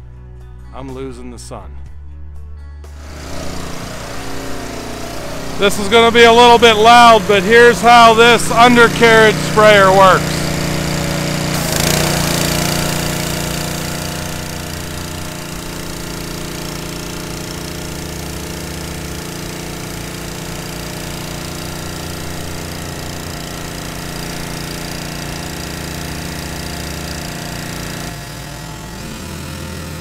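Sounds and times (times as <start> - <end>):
pressure washer drone: 2.9 - 30.0
water spray hissing on concrete: 3.2 - 27.9.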